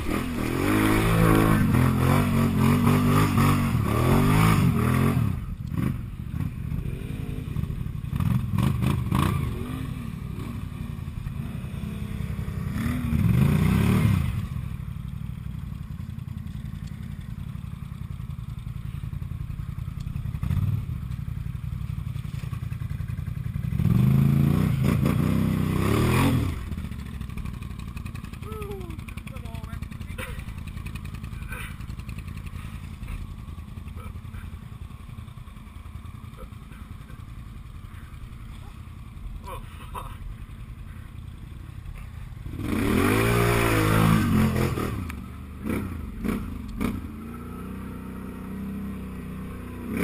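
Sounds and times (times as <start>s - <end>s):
atv churning in mud: 0.0s - 14.8s, 18.4s - 50.0s
atv engine revving: 0.0s - 50.0s.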